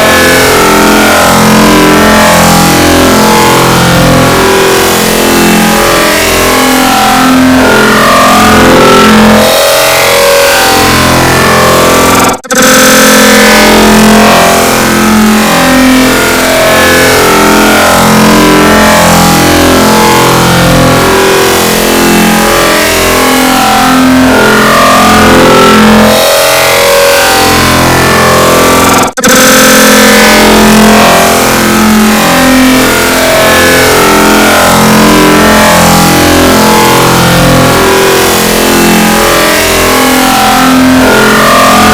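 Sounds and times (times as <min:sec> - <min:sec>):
distorted electronic drone: 0:00.0 - 0:41.9.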